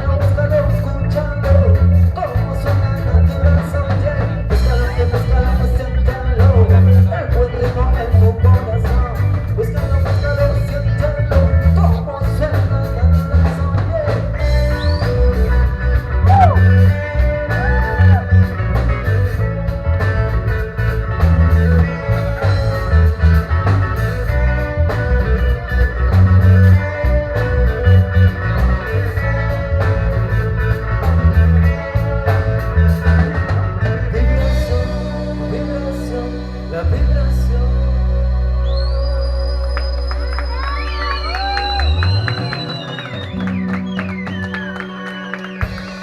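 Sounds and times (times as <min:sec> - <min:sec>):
reggae band playing: 0:00.0 - 0:46.0
sliding guitar notes: 0:00.0 - 0:46.0.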